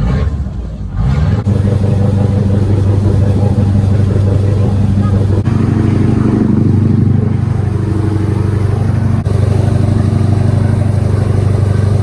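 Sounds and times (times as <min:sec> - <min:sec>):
motor engine running loudly: 0:01.4 - 0:12.0.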